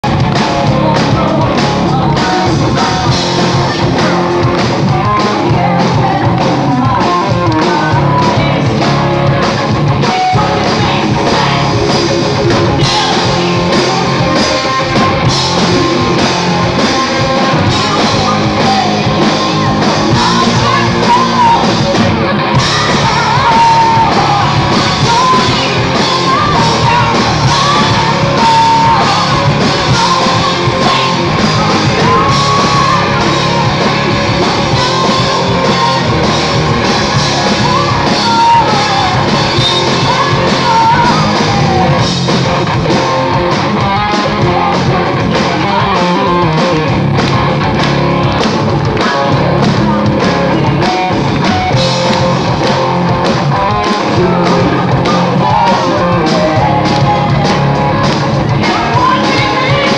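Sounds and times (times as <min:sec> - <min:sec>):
live rock band playing: 0:00.0 - 0:59.9
woman singing: 0:00.1 - 0:42.1, 0:43.7 - 0:46.6, 0:53.6 - 0:59.9.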